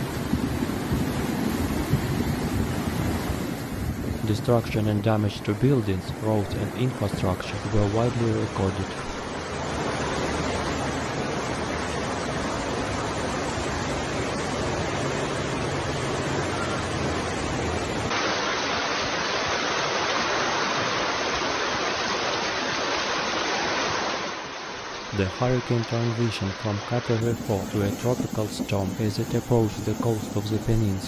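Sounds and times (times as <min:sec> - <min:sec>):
floodwater rushing: 0:00.0 - 0:31.0.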